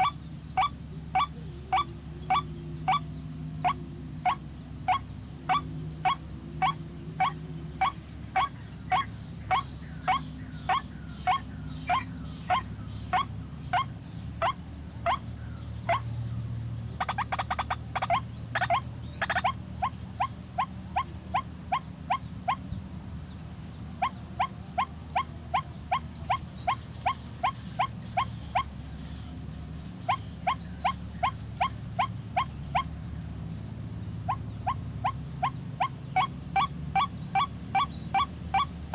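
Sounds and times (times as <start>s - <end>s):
fast bird chattering: 0.0s - 16.1s, 17.0s - 33.6s
waterhen calling: 0.0s - 38.9s.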